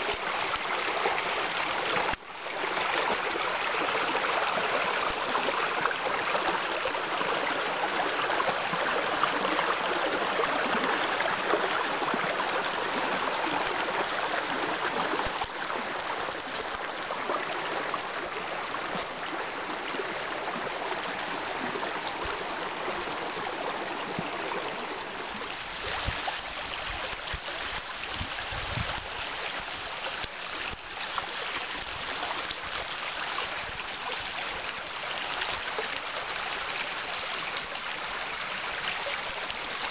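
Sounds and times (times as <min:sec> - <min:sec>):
stream rushing over waterfall: 0:00.0 - 0:39.9.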